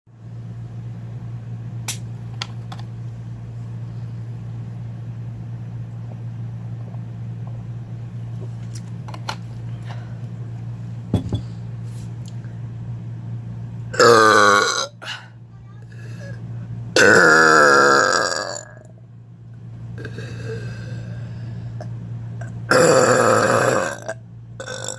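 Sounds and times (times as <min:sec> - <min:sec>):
low room hum: 0:00.1 - 0:24.9.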